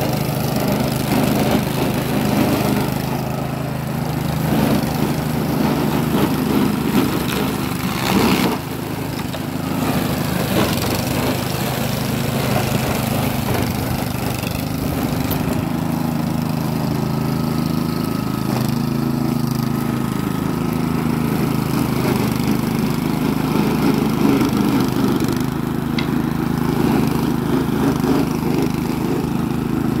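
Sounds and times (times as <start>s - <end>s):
flail rotor chopping grass: 0.0s - 30.0s
mower engine drone: 0.0s - 30.0s.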